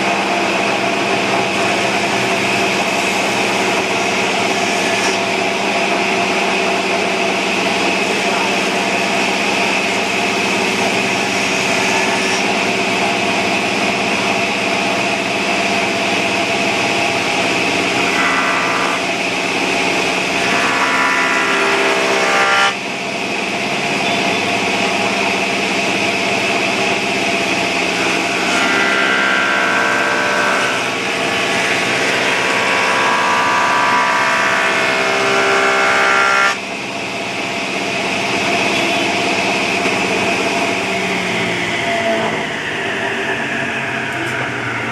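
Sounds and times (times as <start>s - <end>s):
woodworking machine whining: 0.0s - 44.9s.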